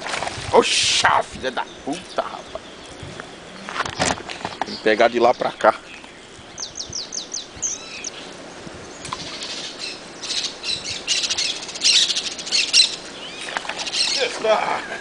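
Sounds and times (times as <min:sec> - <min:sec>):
high falling bird chirps: 0:01.5 - 0:15.0
harsh raspy bird calls: 0:01.6 - 0:08.3, 0:09.0 - 0:15.0.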